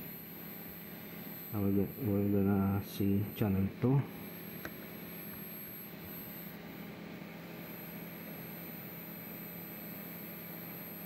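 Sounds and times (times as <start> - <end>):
electric fan whirring: 0.0 - 11.0.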